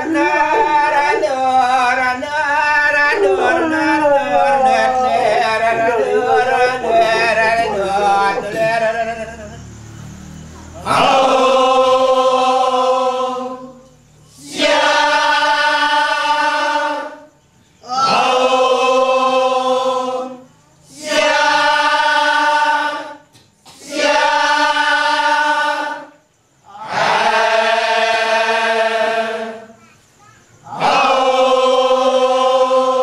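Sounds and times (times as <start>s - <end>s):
men's chorus singing in unison: 0.0s - 29.8s, 30.5s - 33.0s.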